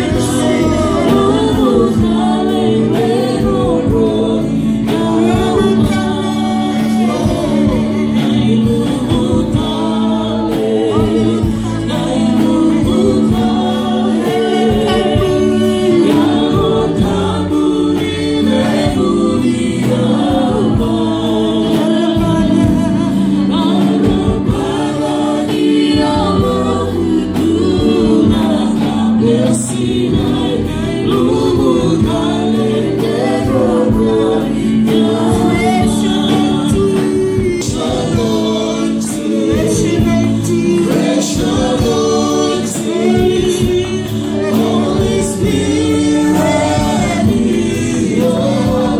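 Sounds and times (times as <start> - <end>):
band playing: 0.0 - 48.9
drum kit beat: 0.0 - 48.9
voices singing gospel: 0.0 - 48.9.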